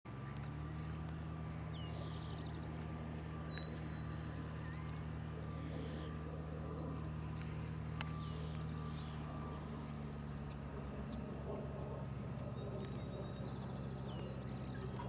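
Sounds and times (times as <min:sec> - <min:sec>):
airplane engine droning: 0:00.1 - 0:15.0
birds chirping: 0:00.1 - 0:15.0.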